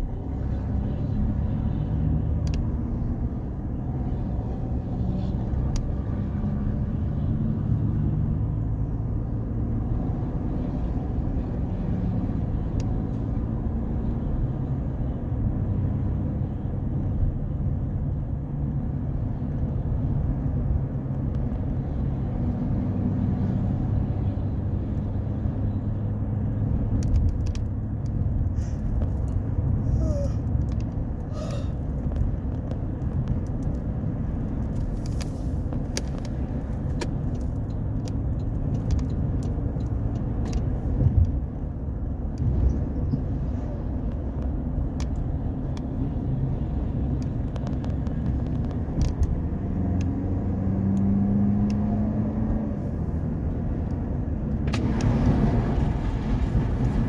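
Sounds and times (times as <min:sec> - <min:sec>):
engine and road rumble: 0:00.0 - 0:57.0.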